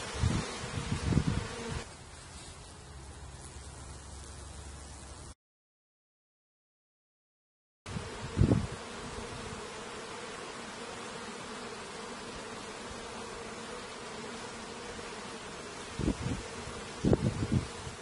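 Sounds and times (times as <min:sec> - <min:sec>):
honeybees buzzing: 0:00.0 - 0:05.4, 0:07.9 - 0:18.0.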